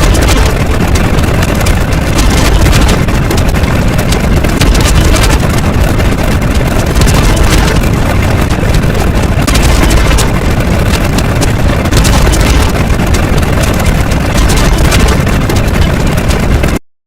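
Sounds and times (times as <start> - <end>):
loud crackling low rumble: 0.0 - 16.8.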